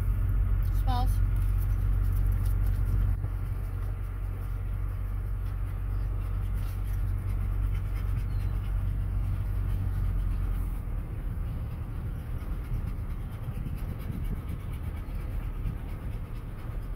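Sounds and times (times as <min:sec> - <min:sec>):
truck engine rumble: 0:00.0 - 0:16.9.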